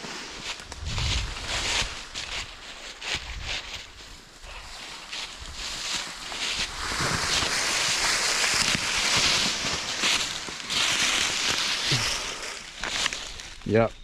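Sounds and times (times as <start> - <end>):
dry leaves rustling and crackling: 0.1 - 13.8.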